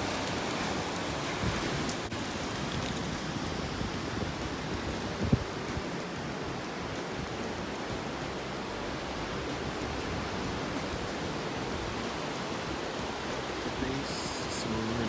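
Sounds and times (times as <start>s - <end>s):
ocean surf rushing: 0.0s - 15.0s.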